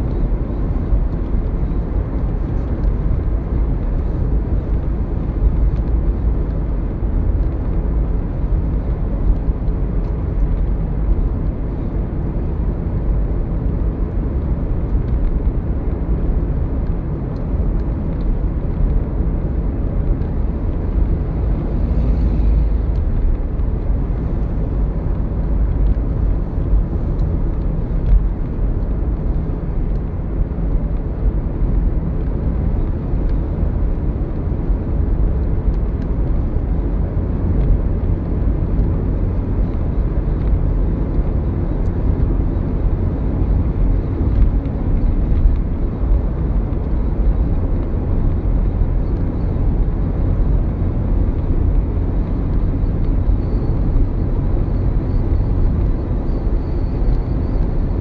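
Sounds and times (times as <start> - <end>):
car driving at highway speed: 0.0 - 58.0.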